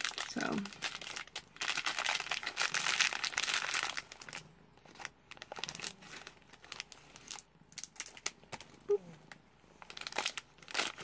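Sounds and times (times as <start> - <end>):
foil packet crinkling: 0.0 - 11.0.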